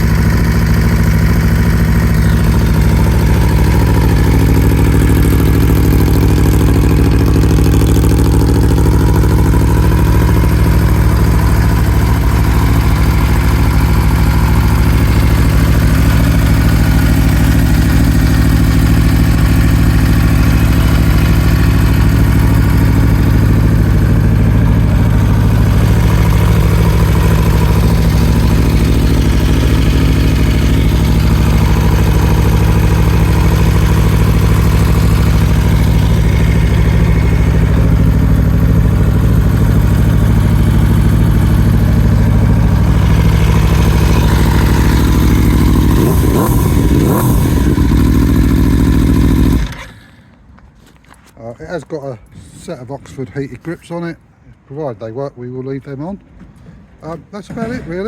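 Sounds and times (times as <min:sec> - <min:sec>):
motorcycle engine idling: 0:00.0 - 0:50.6.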